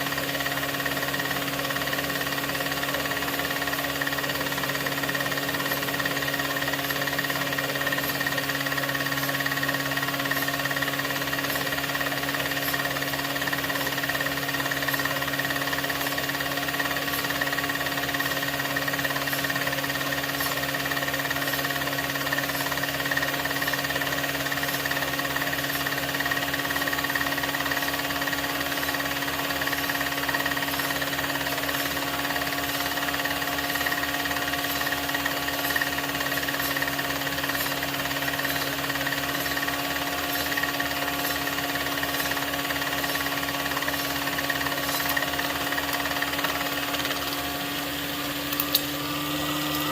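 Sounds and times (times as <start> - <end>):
film projector running: 0.0 - 49.9.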